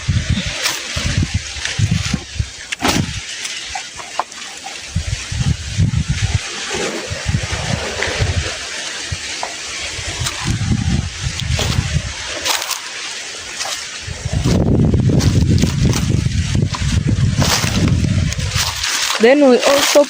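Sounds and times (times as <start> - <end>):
wind buffeting microphone: 0.0 - 4.1, 4.7 - 20.0.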